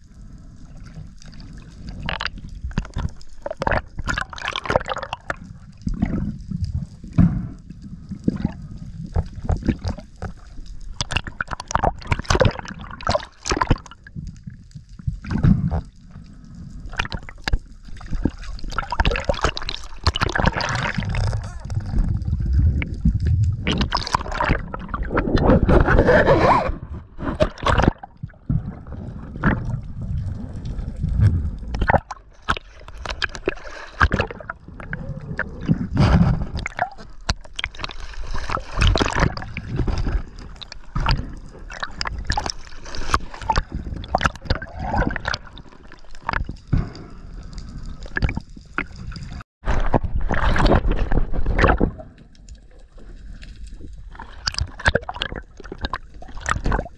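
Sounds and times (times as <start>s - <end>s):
muffled underwater sloshing: 0.0s - 56.9s.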